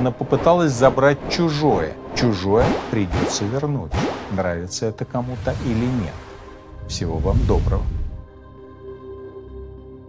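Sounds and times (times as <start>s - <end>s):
ambient music with held notes: 0.0s - 10.0s.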